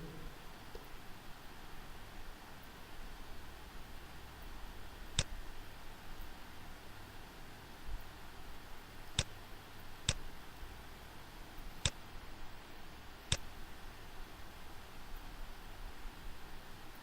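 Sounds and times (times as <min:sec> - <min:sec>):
faint hiss and low hum: 0:00.0 - 0:17.0.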